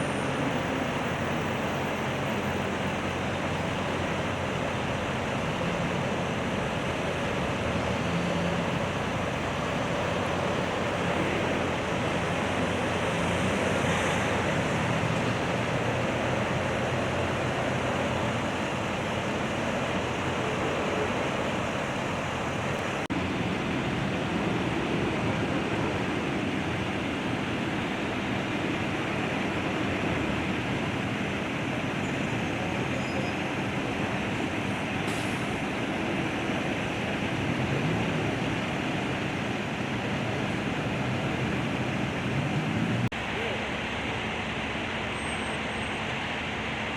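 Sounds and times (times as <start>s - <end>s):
road traffic rumbling: 0.0s - 46.9s.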